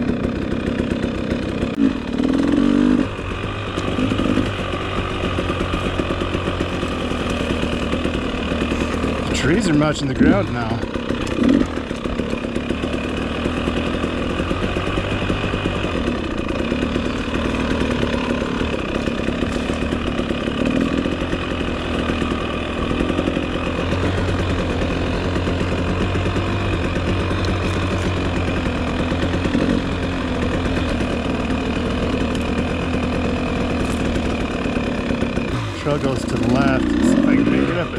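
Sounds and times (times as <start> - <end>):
dirt bike engine running: 0.0 - 37.9.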